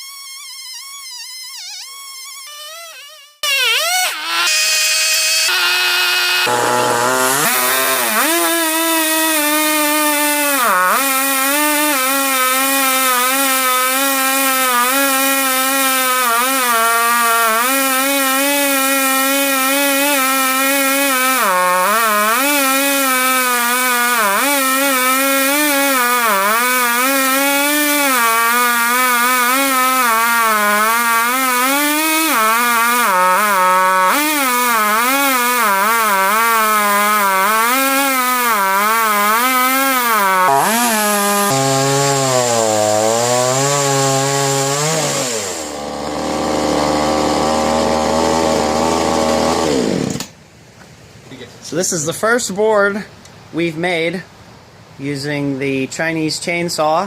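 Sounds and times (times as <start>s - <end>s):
chainsaw ripping log: 0.1s - 50.4s.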